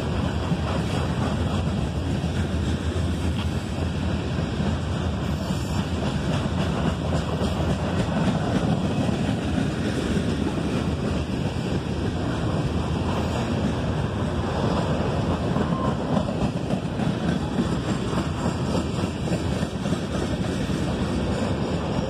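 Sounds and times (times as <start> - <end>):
steel wheels rumbling on rails: 0.0 - 22.0.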